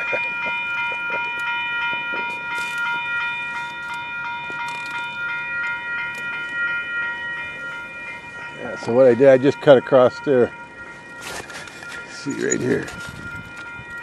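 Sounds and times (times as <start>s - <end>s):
steady high ringing tone: 0.0s - 14.0s.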